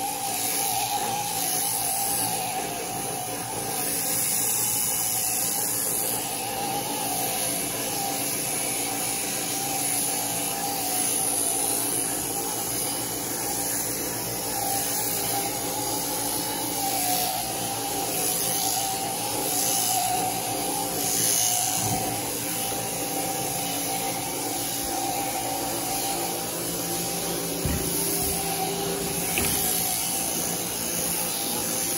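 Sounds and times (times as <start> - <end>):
shearing handpiece buzzing: 0.0 - 31.9.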